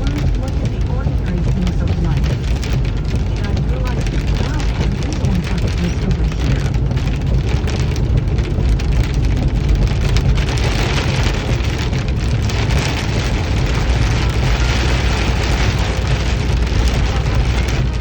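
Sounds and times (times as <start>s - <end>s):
heavy rain falling: 0.0s - 18.0s
low rumble: 0.0s - 18.0s.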